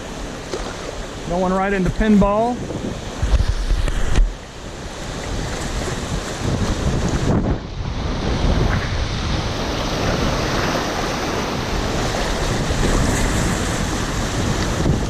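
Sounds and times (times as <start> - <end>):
rushing whitewater: 0.0 - 15.0.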